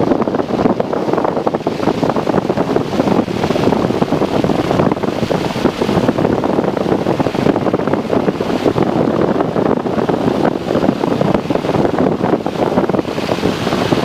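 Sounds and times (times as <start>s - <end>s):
aircraft engine and propeller roar: 0.0s - 14.0s
wind flutter on microphone: 0.0s - 14.0s.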